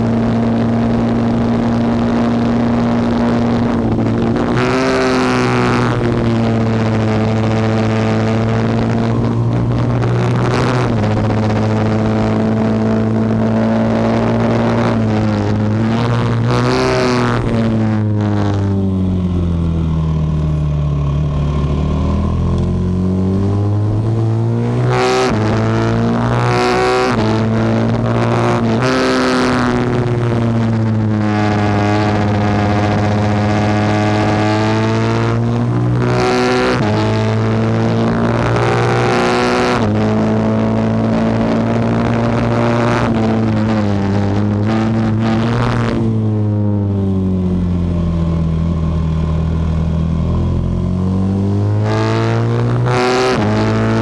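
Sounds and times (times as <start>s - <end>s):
racing motorcycle engine at high revs: 0.0s - 54.0s.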